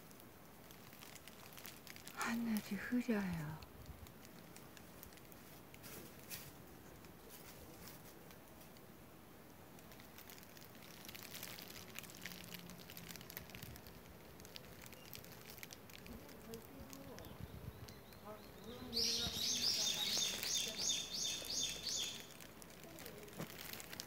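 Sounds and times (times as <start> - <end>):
low hiss: 0.0 - 24.0
small clicks and crackles: 0.0 - 24.0.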